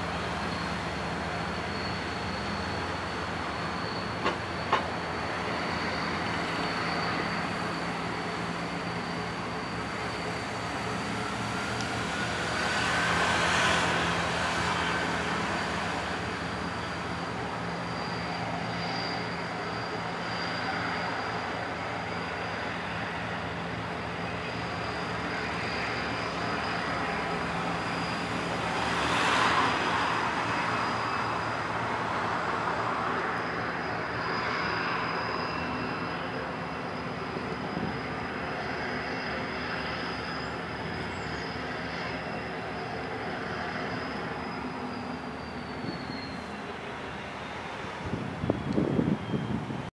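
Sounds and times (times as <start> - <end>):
thin high whine: 0.0 - 49.6.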